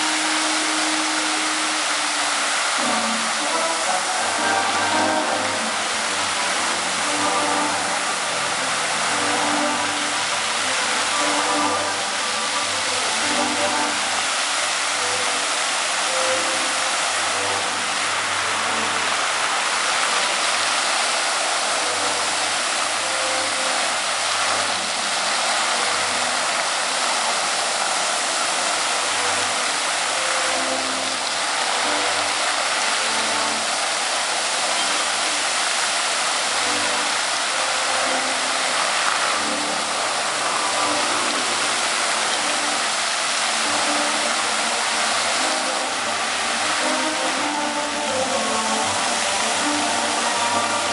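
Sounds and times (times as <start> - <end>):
fountain water spraying: 0.0 - 50.9.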